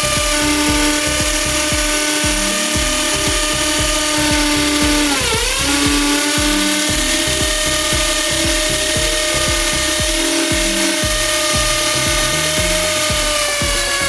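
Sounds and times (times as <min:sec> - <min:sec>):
background music with beat: 0:00.0 - 0:14.0
electric drill whining: 0:00.0 - 0:14.0.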